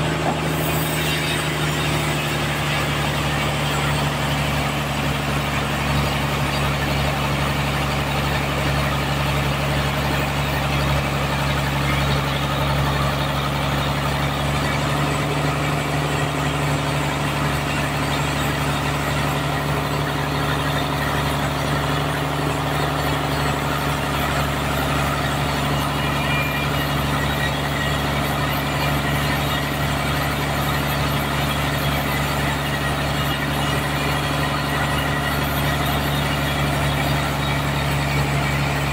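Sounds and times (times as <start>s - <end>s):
sawmill engine humming: 0.0s - 38.9s.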